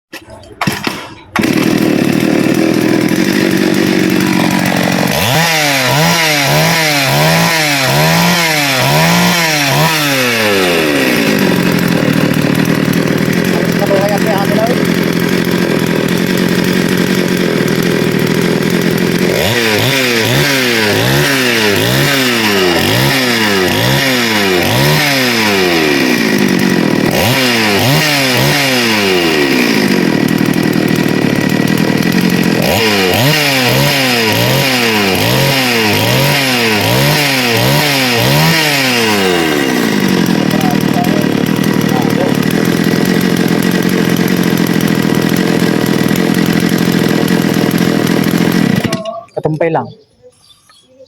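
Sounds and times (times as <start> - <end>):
chainsaw engine idling and revving: 0.1 - 49.9.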